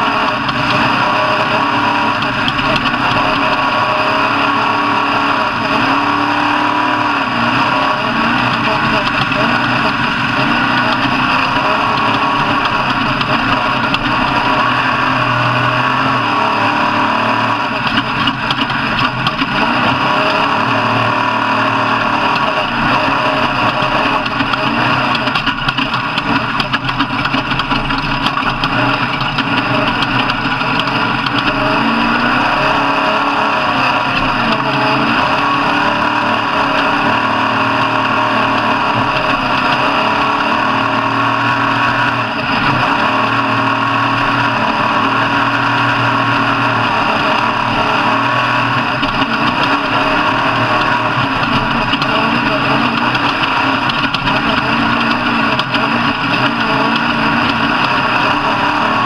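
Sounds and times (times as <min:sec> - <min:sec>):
vehicle engines droning: 0:00.0 - 0:59.0.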